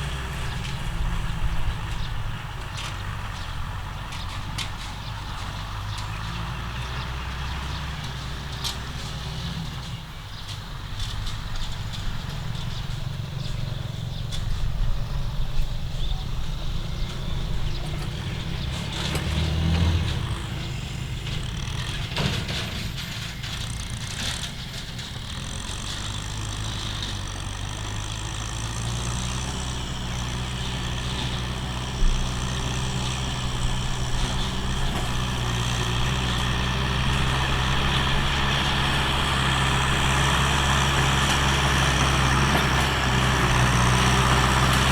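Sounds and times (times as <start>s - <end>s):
tractor engine humming: 0.0s - 44.9s.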